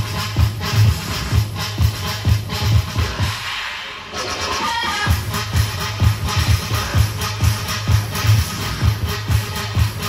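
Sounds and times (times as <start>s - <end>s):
heavy kick drum: 0.0s - 3.5s, 4.8s - 10.0s
electronic dance music: 0.0s - 10.0s.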